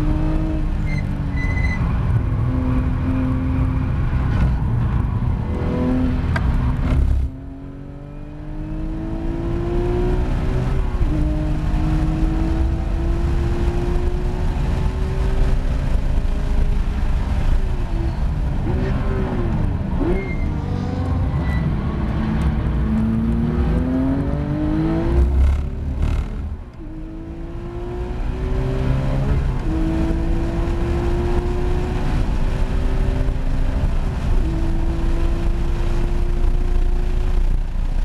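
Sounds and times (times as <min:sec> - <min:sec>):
car engine revving: 0:05.4 - 0:17.8, 0:18.5 - 0:38.0.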